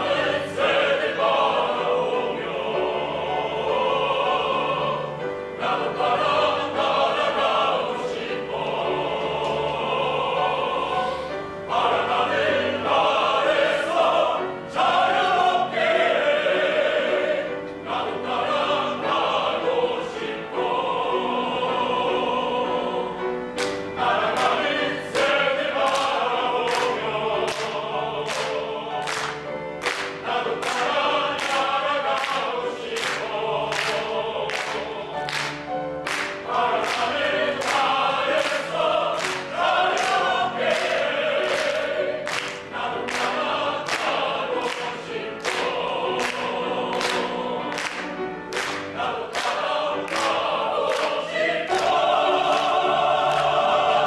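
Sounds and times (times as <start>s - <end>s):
mixed choir singing in harmony: 0.0s - 54.0s
piano accompaniment: 0.0s - 54.0s.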